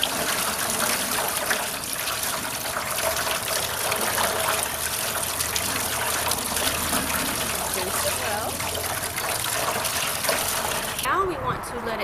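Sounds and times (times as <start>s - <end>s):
hose water splashing into metal tub: 0.0s - 11.1s.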